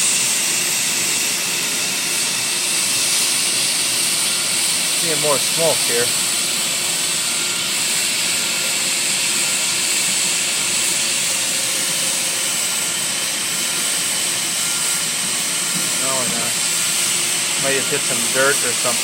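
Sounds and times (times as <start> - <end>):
plastic welder hissing: 0.0 - 19.0.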